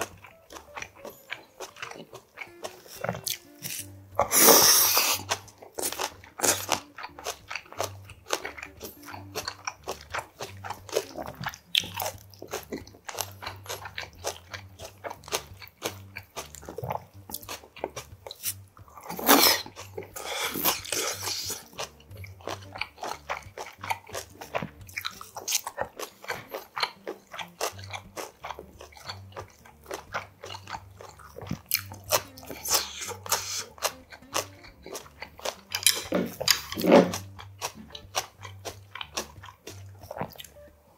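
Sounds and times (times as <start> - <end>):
man chewing and crunching: 0.0 - 40.9.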